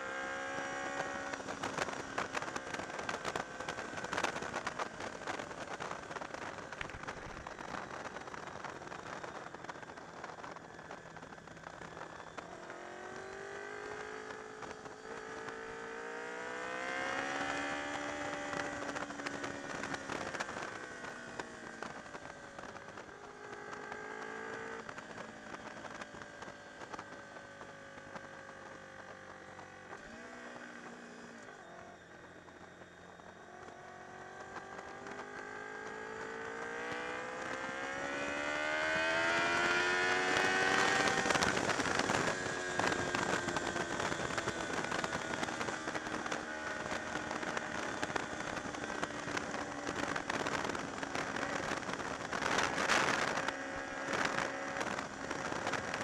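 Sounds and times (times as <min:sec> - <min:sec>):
motorcycle engine running at speed: 0:00.0 - 0:56.0
wind noise on microphone: 0:00.4 - 0:28.4, 0:36.2 - 0:56.0.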